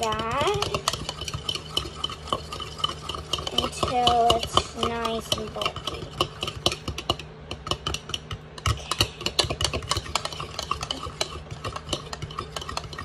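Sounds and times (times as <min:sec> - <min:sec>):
fork whisking eggs in cup: 0:00.0 - 0:13.0.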